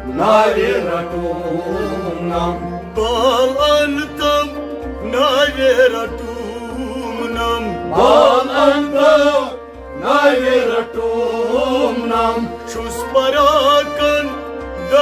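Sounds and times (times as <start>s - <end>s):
person singing ornamented melody: 0.0s - 15.0s.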